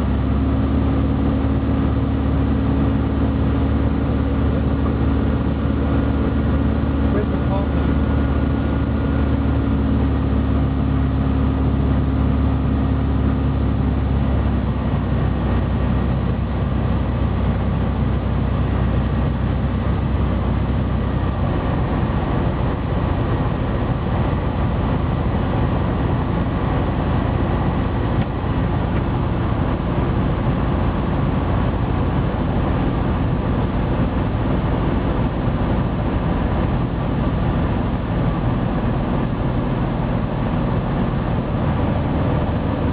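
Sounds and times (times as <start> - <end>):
aircraft engine and propeller drone: 0.0 - 42.9.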